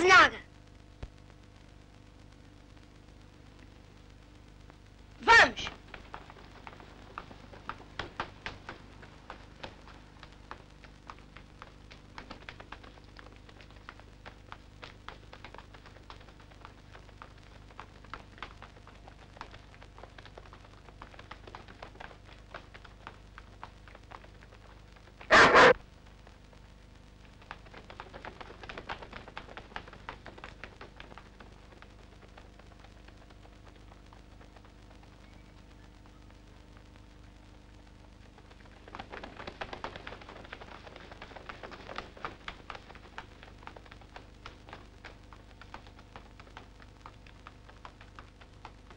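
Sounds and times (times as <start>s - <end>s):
children's running footsteps: 5.2s - 25.8s, 26.4s - 48.9s.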